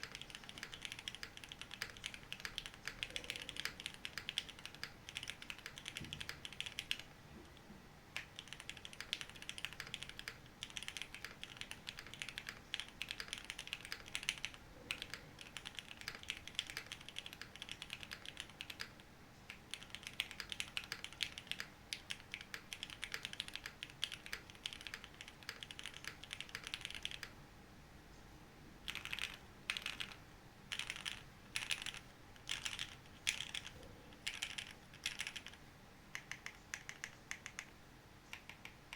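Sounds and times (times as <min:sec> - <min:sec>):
mechanical keyboard typing: 0:00.0 - 0:07.2, 0:08.2 - 0:27.3, 0:28.8 - 0:37.7, 0:38.3 - 0:38.9.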